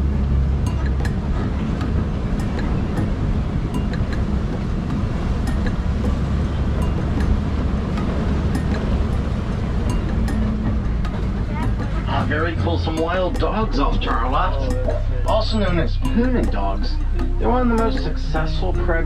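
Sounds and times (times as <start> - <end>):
truck engine and road rumble: 0.0 - 19.0
vehicle rattles and clicks: 0.0 - 19.0.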